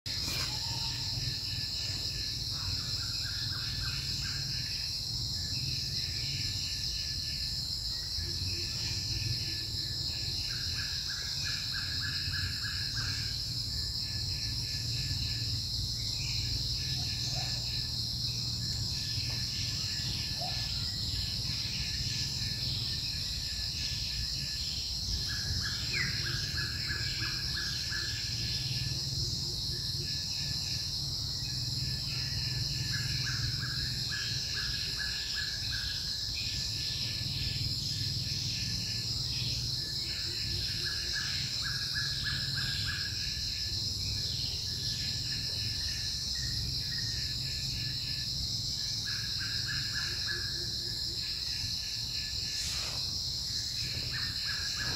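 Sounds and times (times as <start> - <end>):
high-pitched insect drone: 0.1 - 54.9.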